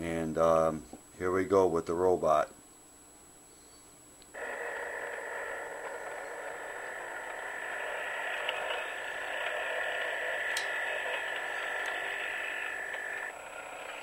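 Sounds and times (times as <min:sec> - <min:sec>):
electronic hiss from small speaker: 0:00.0 - 0:14.0.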